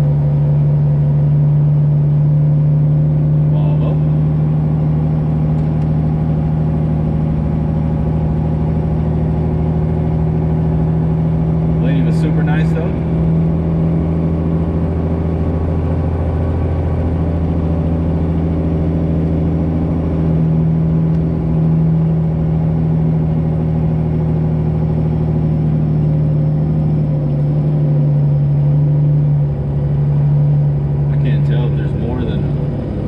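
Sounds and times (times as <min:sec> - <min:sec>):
diesel truck engine droning: 0:00.0 - 0:33.0.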